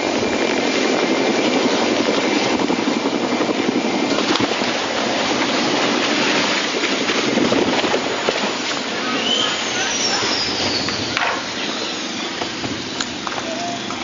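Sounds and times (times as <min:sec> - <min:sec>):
helicopter crashing: 0:00.0 - 0:14.0
helicopter rotors and engines: 0:00.0 - 0:14.0.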